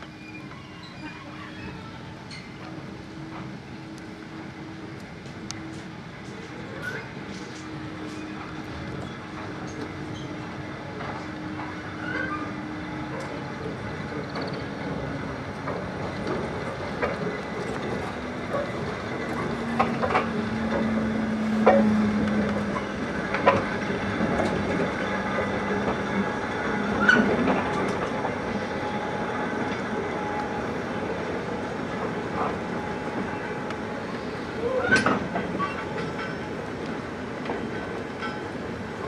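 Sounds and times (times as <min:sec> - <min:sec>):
locomotive engine drone: 0:00.0 - 0:39.0.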